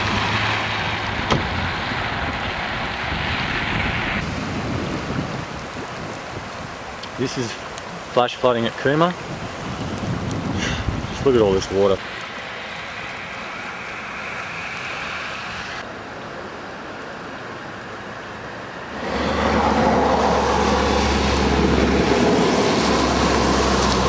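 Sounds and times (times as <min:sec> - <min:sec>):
flood water rushing: 0:00.0 - 0:24.0.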